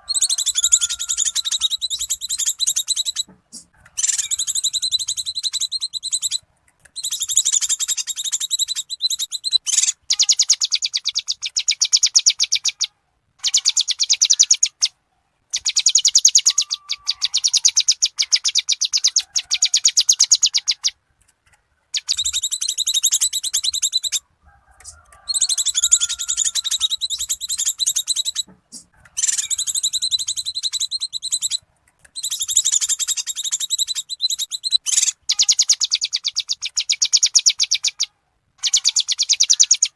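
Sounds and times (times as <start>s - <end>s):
bird chattering: 0.0s - 21.0s, 21.9s - 39.9s.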